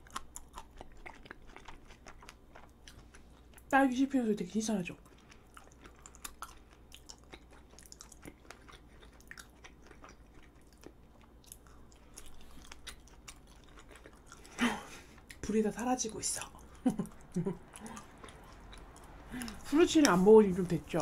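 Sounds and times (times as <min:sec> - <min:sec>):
close chewing of sticky rice cake: 0:00.0 - 0:03.8, 0:04.4 - 0:21.0.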